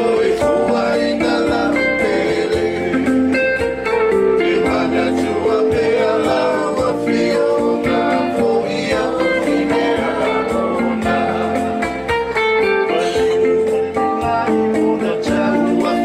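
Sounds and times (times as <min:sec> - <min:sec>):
person singing: 0:00.0 - 0:03.4, 0:04.4 - 0:16.0.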